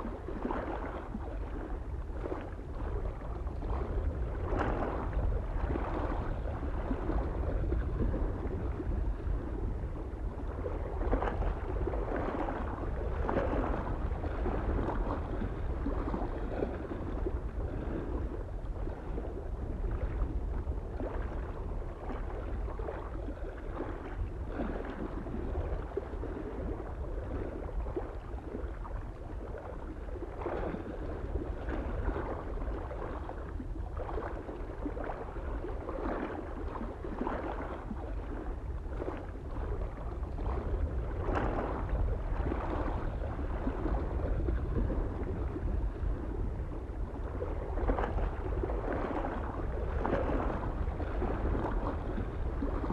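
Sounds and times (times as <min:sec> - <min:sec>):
small waves lapping and splashing: 0:00.0 - 0:52.9
wind rumble on microphone: 0:00.0 - 0:52.9.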